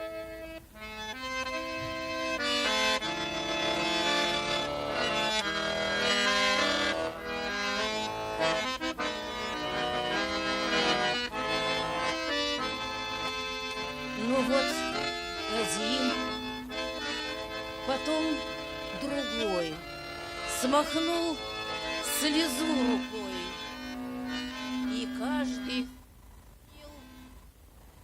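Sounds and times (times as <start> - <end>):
button accordion melody: 0.0 - 26.2.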